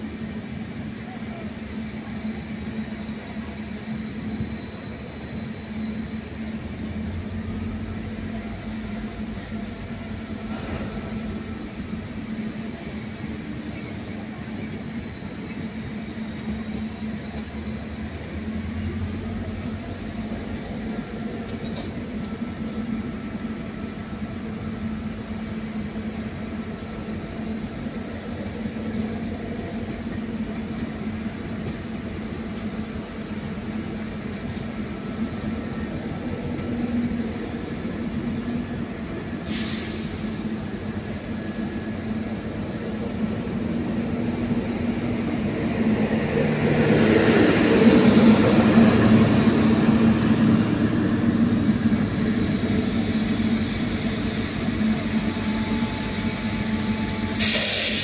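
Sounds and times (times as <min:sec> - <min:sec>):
train coaches rolling on rails: 0:00.0 - 0:58.0.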